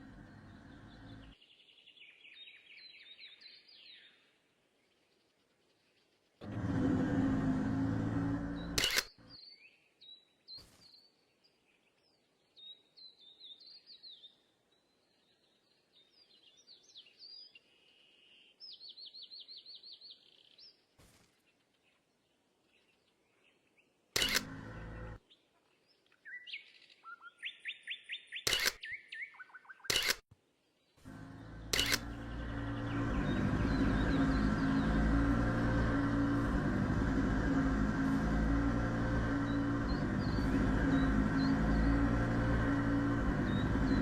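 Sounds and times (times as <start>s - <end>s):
small birds singing: 0.0s - 44.0s.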